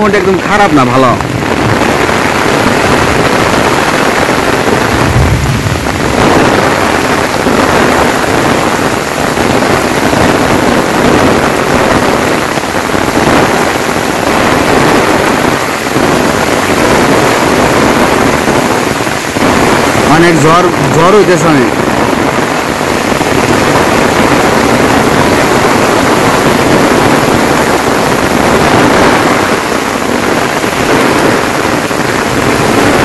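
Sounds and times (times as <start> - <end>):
heavy rain pouring: 0.0 - 33.0
wind rumbling on microphone: 0.0 - 33.0.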